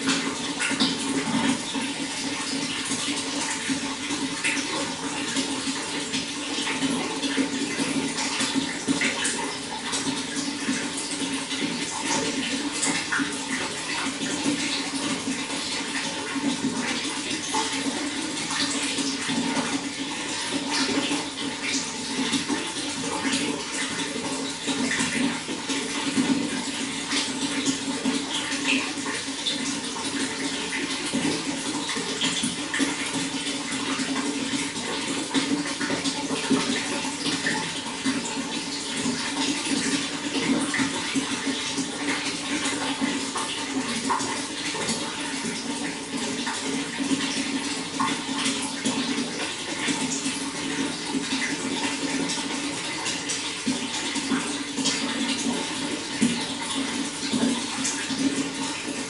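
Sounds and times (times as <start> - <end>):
running water splashing: 0.0 - 59.0.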